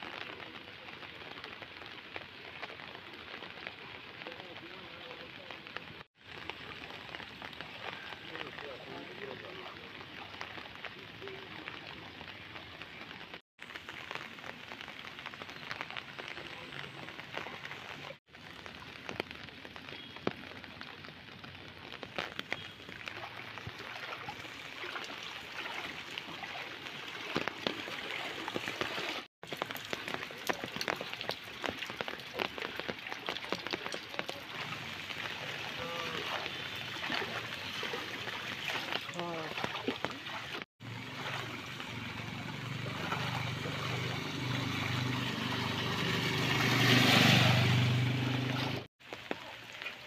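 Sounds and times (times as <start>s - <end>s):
rain falling on water: 0.0s - 50.0s.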